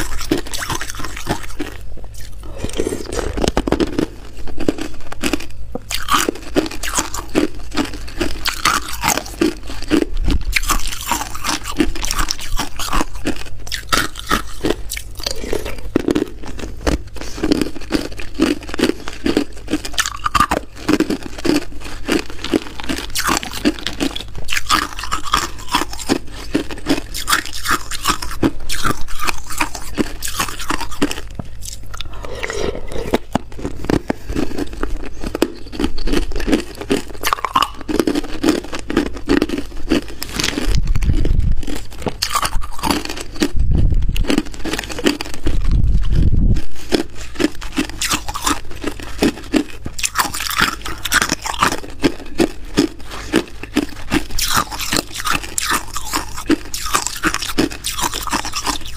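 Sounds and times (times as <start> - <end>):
ice crunching between teeth: 0.0 - 58.9.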